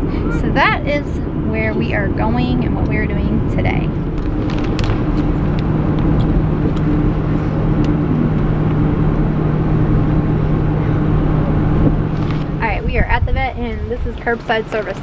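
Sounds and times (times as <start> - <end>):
constant low hum: 0.0 - 15.0
road rumble: 0.0 - 15.0
van engine drone: 0.0 - 15.0.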